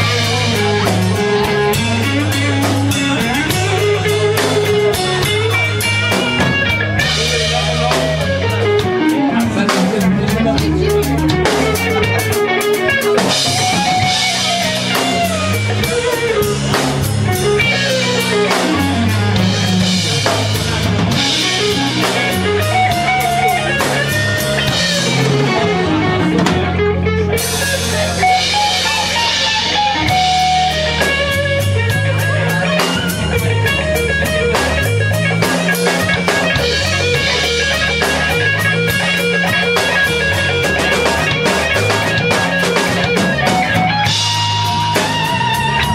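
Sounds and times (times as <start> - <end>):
bass guitar: 0.0 - 45.9
drum kit: 0.0 - 45.9
lead guitar bending notes: 0.0 - 45.9.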